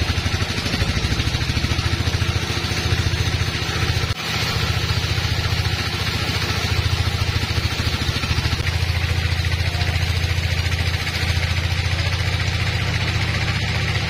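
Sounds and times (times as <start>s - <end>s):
band sawmill running: 0.0s - 14.0s.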